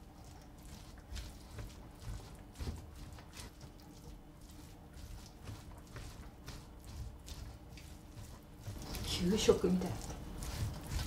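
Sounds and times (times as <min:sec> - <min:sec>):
spatula scraping sticky rice in pot: 0:00.0 - 0:11.0.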